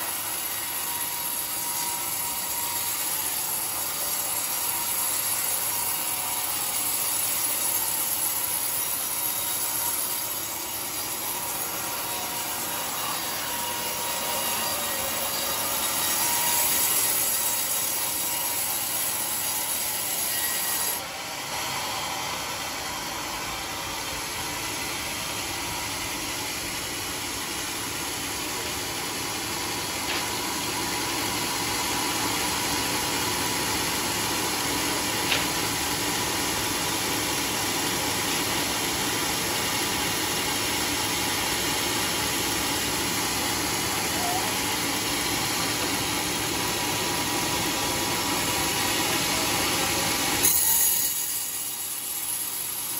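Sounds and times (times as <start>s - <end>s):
sawmill blade sawing log: 0.0s - 52.9s.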